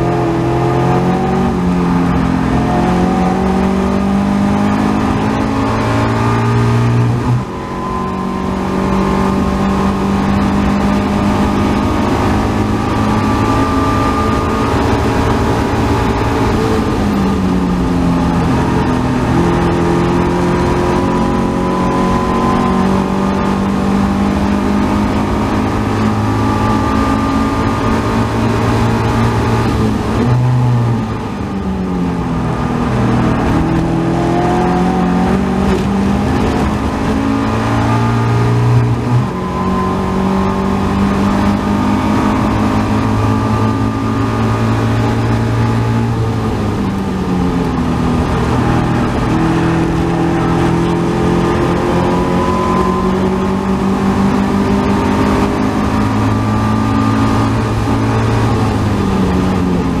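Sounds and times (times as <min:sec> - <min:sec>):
race car engine at full throttle: 0:00.0 - 1:00.0.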